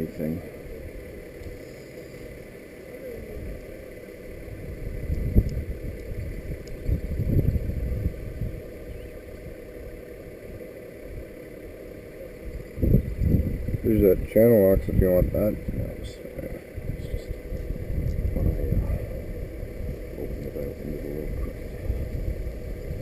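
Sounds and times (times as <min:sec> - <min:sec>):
faint steady whine: 0:00.0 - 0:23.0
low rumbles: 0:00.0 - 0:23.0
truck engine droning: 0:00.0 - 0:23.0.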